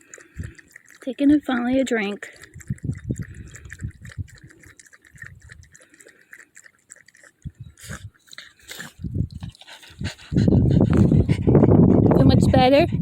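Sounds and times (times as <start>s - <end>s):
dog lapping water: 0.0s - 13.0s.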